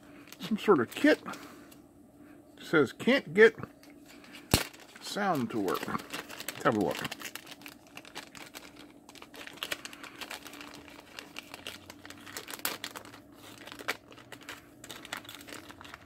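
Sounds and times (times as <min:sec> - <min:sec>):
plastic bag crinkling: 0:00.1 - 0:01.5, 0:04.0 - 0:16.0.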